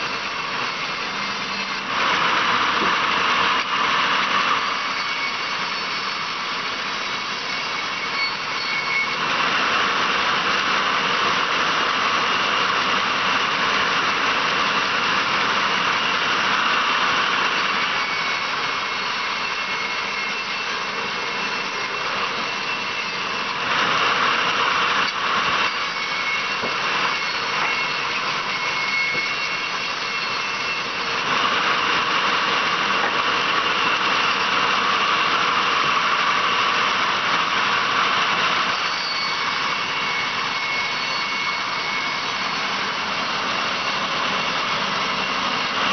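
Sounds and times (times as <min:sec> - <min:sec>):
band saw cutting log: 0:00.0 - 0:45.9.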